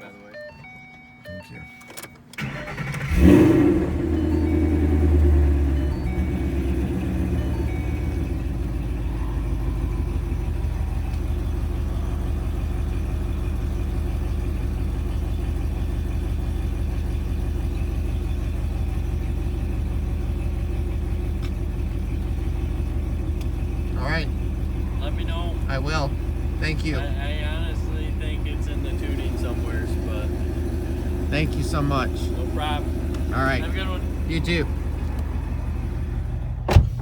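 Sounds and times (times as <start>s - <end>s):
car engine idling: 0.1s - 37.0s.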